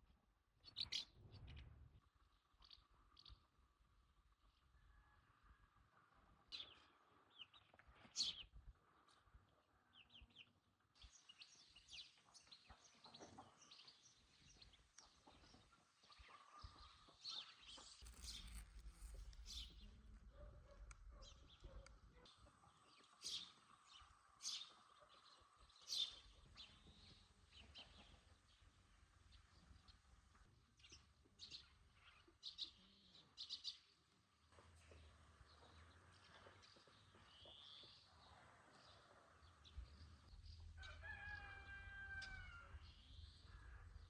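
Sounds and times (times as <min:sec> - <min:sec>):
faint birdsong chirps: 0:00.5 - 0:44.0.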